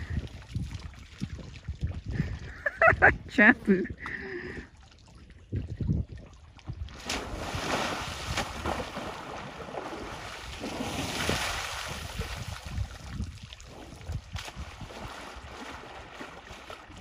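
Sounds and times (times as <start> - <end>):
water sloshing and splashing: 0.0 - 17.0
wind on microphone: 0.0 - 17.0.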